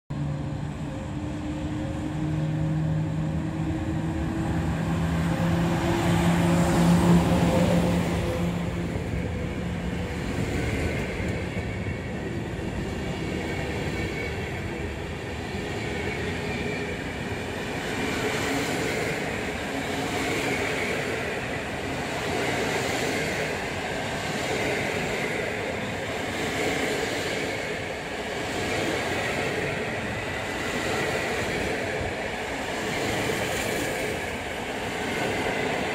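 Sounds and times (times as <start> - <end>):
electric train passing with hum: 0.1 - 35.9
wheels rumbling on rail: 0.1 - 35.9.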